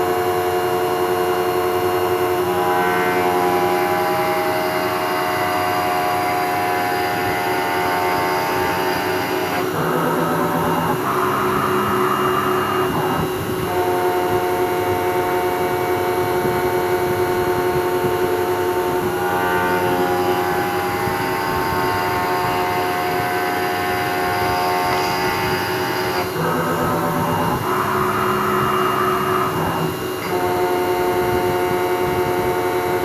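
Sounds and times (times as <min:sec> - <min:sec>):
milling machine whine: 0:00.0 - 0:33.0.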